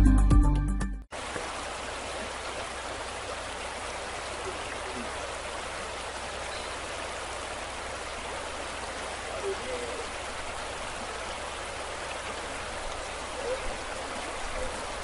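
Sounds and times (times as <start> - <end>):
floodwater rushing downhill: 1.1 - 15.0.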